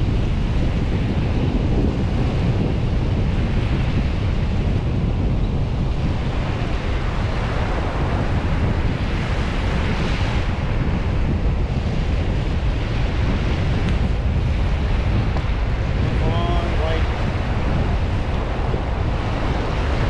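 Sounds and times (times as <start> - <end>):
surf waves breaking on beach: 0.0 - 20.0
wind buffeting microphone: 0.0 - 20.0.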